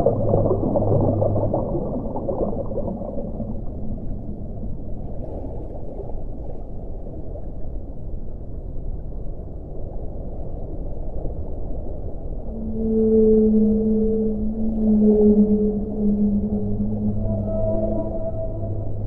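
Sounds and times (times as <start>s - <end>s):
underwater water rumble: 0.0s - 19.0s.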